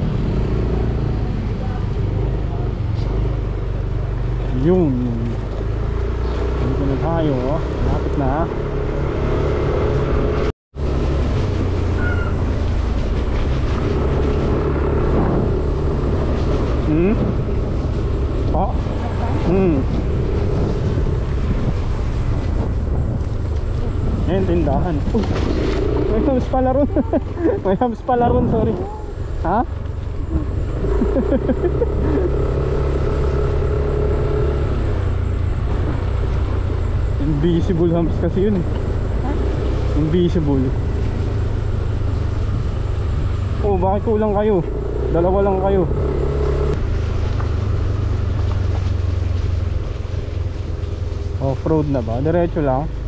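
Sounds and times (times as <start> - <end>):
motorcycle engine cruising: 0.0 - 53.0
road and wind noise: 0.0 - 53.0.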